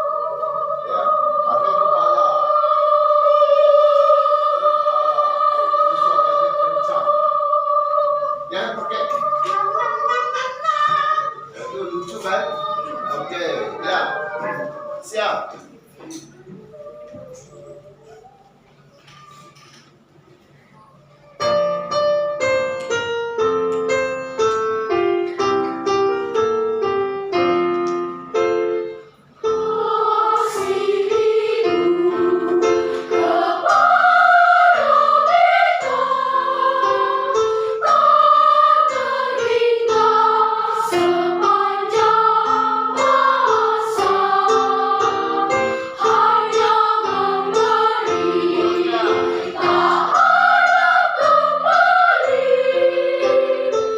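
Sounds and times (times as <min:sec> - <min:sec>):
piano playing: 0:00.0 - 0:15.8, 0:21.0 - 0:53.9
children's choir singing: 0:00.0 - 0:18.8, 0:27.3 - 0:53.9.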